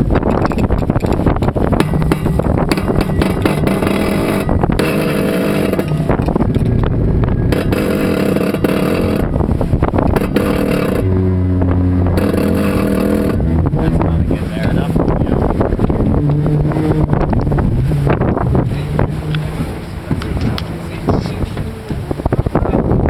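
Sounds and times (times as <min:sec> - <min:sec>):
water rushing past hull: 0:00.0 - 0:23.0
wind buffeting microphone: 0:00.0 - 0:23.0.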